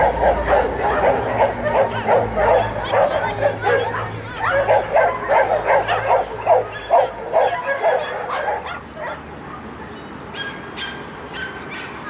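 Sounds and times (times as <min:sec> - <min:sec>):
dog yipping and barking: 0:00.0 - 0:09.6, 0:10.3 - 0:12.0.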